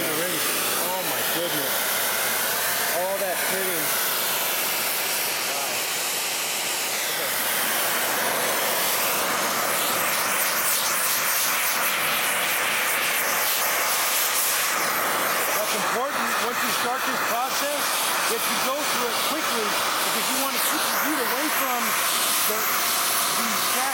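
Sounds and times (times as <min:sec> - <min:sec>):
cutting torch hissing: 0:00.0 - 0:23.9.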